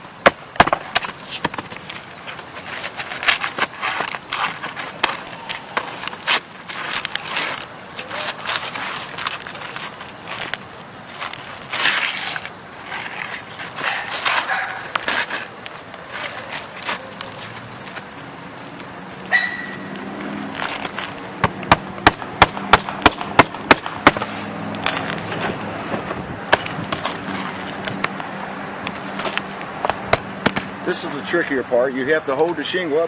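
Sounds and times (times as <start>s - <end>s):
shingles scraping and rustling: 0.6s - 19.3s, 19.9s - 21.4s, 24.1s - 31.5s.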